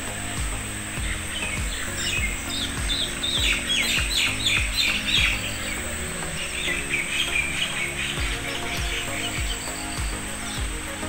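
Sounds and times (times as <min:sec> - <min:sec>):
background music with low beat: 0:00.0 - 0:11.0
small birds chirping: 0:00.0 - 0:11.0.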